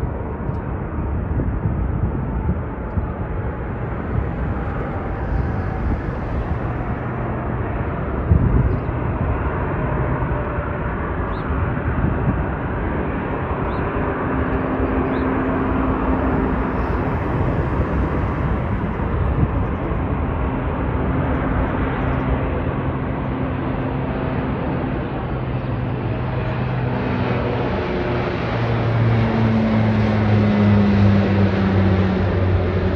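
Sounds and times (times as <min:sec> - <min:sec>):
jet airliner taking off: 0:00.0 - 0:32.9.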